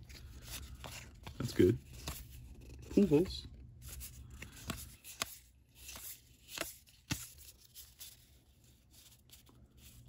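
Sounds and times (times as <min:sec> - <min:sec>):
trading cards rustling: 0:00.0 - 0:10.0.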